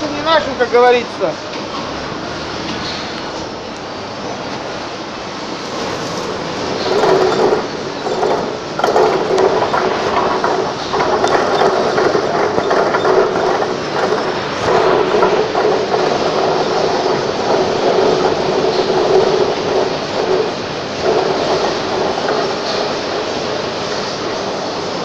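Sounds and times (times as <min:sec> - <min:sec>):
forklift rumbling: 0:00.0 - 0:25.0.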